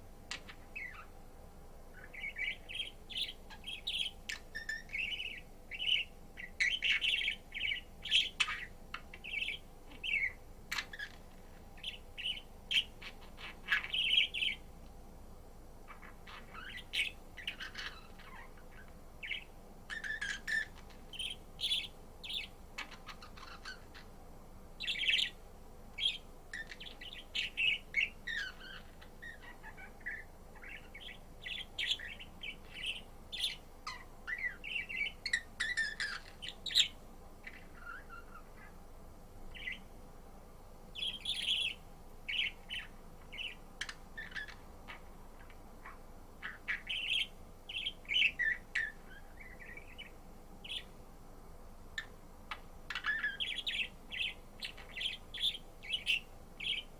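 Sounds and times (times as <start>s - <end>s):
budgerigar chirping: 0.3s - 1.2s, 1.9s - 11.2s, 11.8s - 14.6s, 15.9s - 24.1s, 24.8s - 25.4s, 26.0s - 38.8s, 39.6s - 39.9s, 41.0s - 51.0s, 52.0s - 56.9s.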